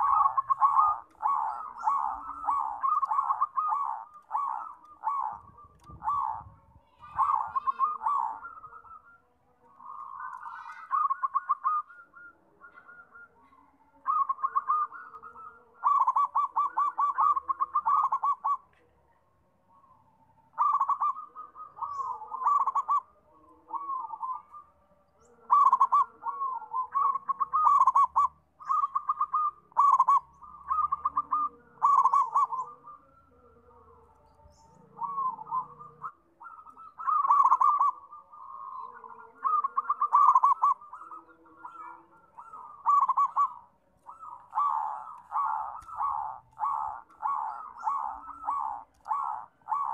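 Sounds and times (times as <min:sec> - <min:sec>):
dove cooing: 0:00.0 - 0:18.9, 0:19.7 - 0:49.9.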